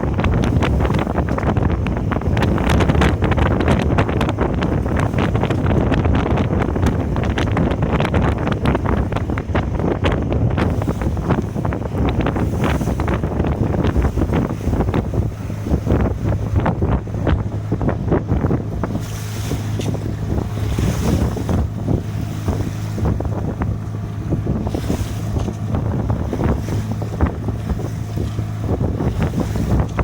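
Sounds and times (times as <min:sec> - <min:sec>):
steady low hum: 0:00.0 - 0:30.0
waves washing against hull: 0:00.0 - 0:30.0
wind buffeting microphone: 0:00.0 - 0:30.0.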